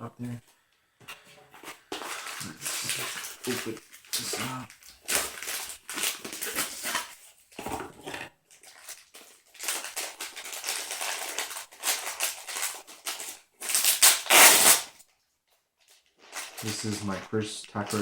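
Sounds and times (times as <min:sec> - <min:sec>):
plastic packaging crinkling and tearing: 0:01.6 - 0:15.1, 0:15.8 - 0:18.0.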